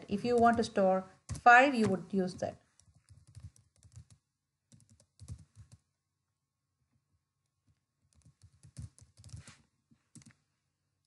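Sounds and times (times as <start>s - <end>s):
faint keyboard typing: 0.0s - 5.9s, 7.4s - 10.5s.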